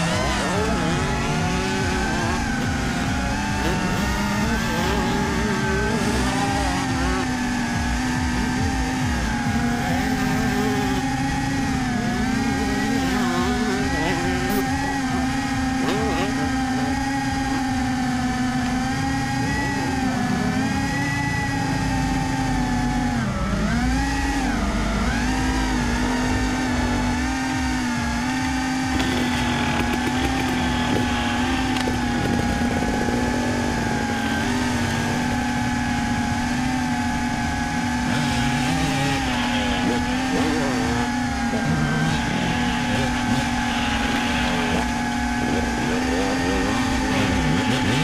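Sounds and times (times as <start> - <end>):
drone propellers humming: 0.0 - 48.0.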